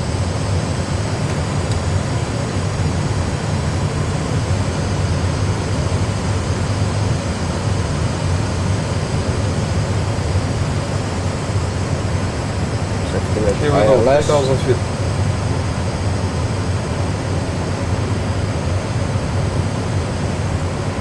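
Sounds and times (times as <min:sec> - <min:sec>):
flight deck rumble and airflow hiss: 0:00.0 - 0:21.0.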